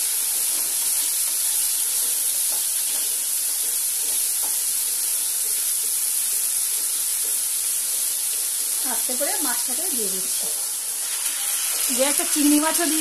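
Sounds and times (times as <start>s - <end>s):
paste sizzling in oil: 0.0s - 13.0s.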